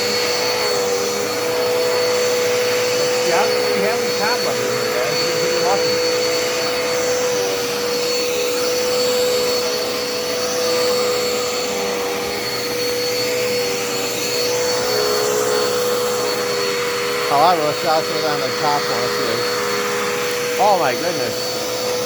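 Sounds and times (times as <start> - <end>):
upright vacuum cleaner running: 0.0 - 22.0.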